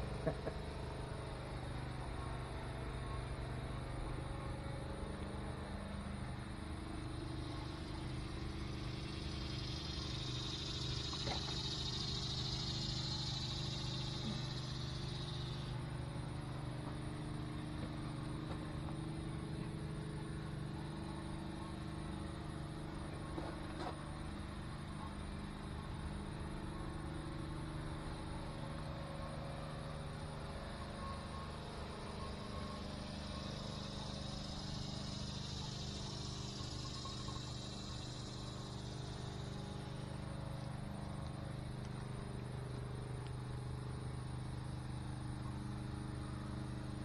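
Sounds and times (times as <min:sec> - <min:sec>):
insects trilling: 0:00.0 - 0:47.0
low machine hum: 0:00.0 - 0:47.0.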